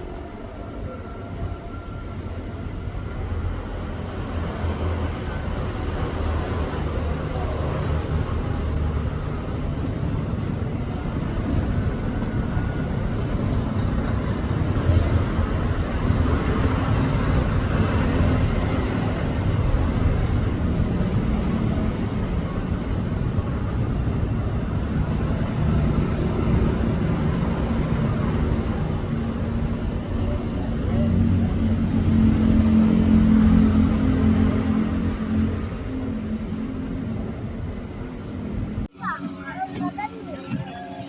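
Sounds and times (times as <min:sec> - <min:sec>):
engine rumble: 0:02.7 - 0:41.0.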